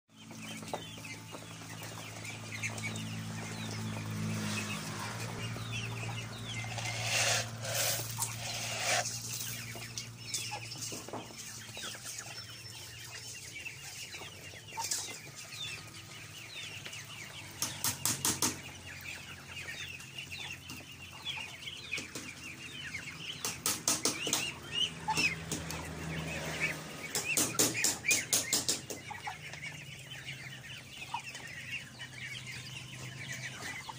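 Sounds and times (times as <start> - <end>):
duckling peeps: 0.3 - 33.9.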